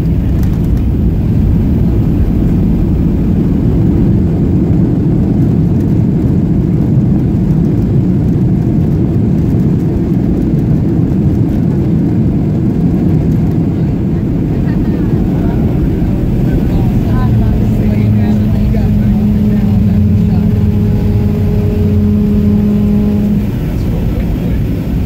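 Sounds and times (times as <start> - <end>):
aircraft cabin low rumble: 0.0 - 25.0.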